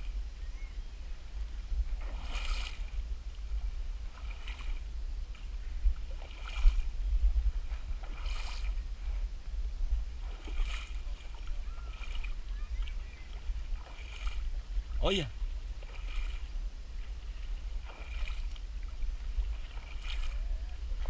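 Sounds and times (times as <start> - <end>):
low rumble on microphone: 0.0 - 21.0
water sloshing and splashing: 1.7 - 21.0.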